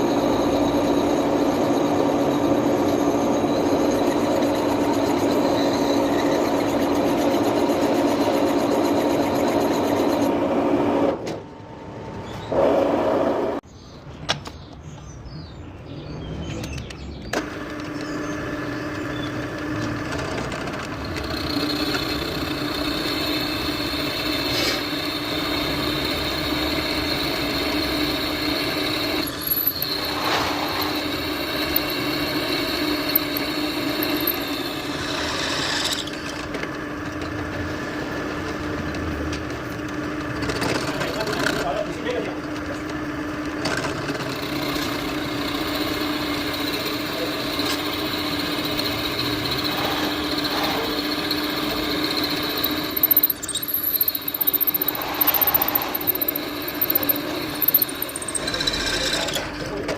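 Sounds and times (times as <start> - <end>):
metal lathe whining: 0.0 - 12.8, 17.4 - 39.0, 39.7 - 59.9.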